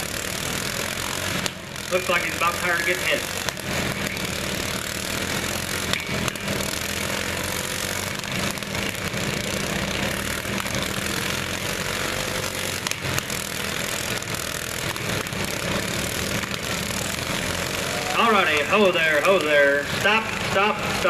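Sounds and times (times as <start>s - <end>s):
mowers knocking together: 0.0s - 21.0s
riding lawn mower engines droning: 0.0s - 21.0s.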